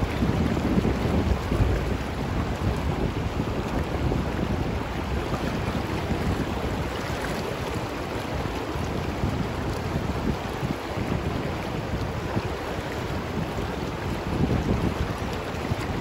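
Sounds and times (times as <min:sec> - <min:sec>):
river rushing over rocks: 0:00.0 - 0:16.0
wind buffeting microphone: 0:00.0 - 0:16.0.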